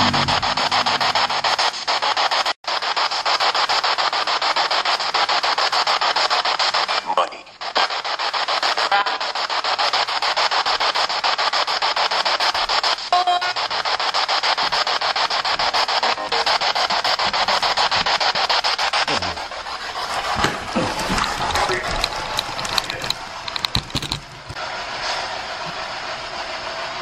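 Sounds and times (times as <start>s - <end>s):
chopped static hiss: 0.0s - 24.6s.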